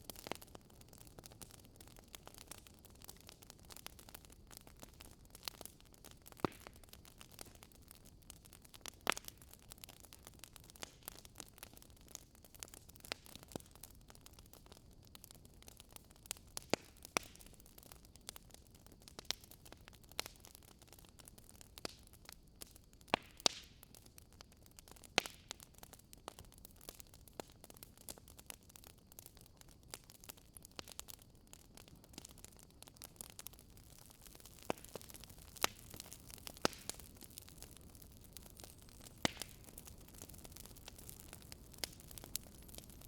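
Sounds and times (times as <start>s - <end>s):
low steady hiss: 0.0s - 43.0s
wood fire crackling: 0.0s - 43.0s.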